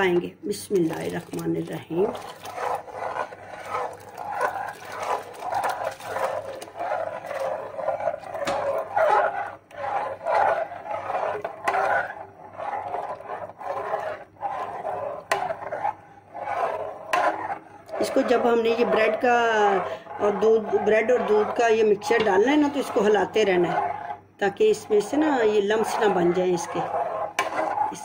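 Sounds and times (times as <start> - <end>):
metal ladle scraping metal pot: 0.0 - 28.0.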